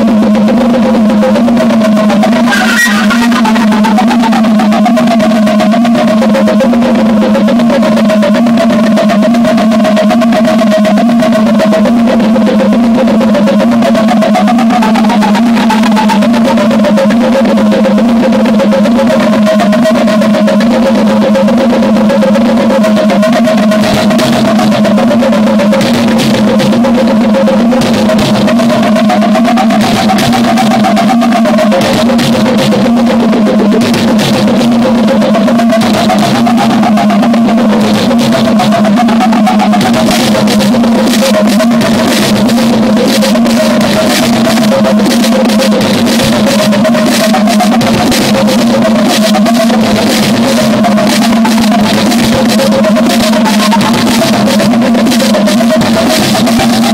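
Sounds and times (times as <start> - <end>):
drum machine hits: 0.0 - 56.9
low synth drone: 0.0 - 56.9
wavering synth line: 0.0 - 56.9.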